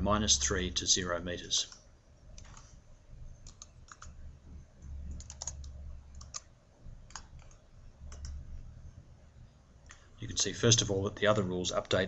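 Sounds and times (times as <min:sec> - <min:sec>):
low hum: 0:01.9 - 0:11.8.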